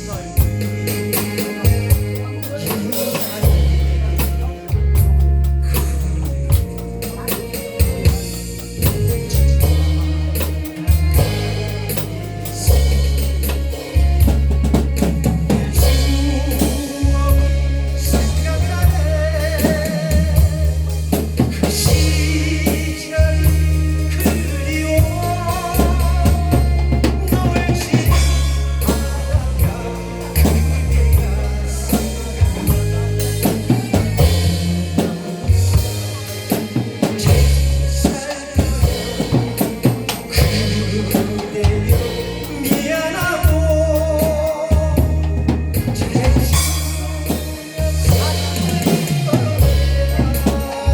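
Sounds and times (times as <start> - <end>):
drum kit beat: 0.0 - 50.9
heavy bass: 0.0 - 50.9
person singing: 0.0 - 50.9.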